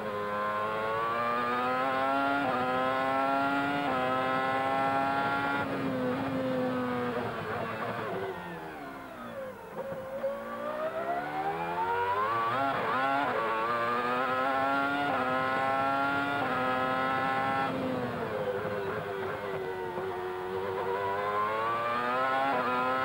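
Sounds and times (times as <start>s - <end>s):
racing car engine revving: 0.1s - 8.2s, 9.8s - 23.0s.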